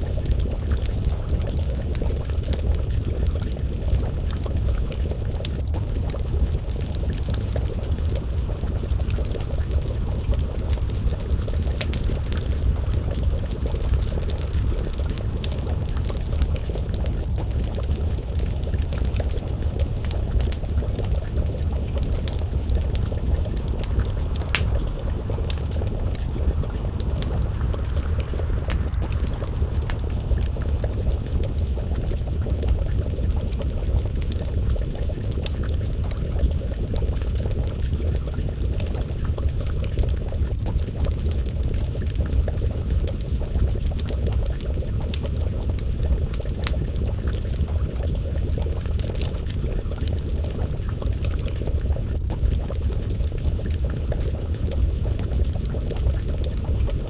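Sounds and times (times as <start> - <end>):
stew bubbling: 0.0 - 57.0
wood fire crackling: 0.0 - 57.0.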